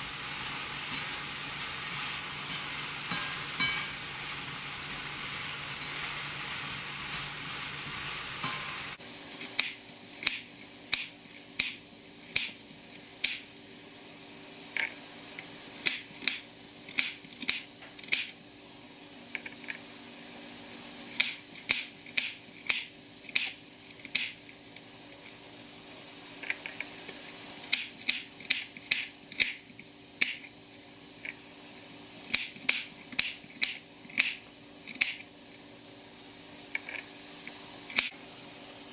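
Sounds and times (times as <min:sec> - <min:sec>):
frying hiss: 0:00.0 - 0:38.9.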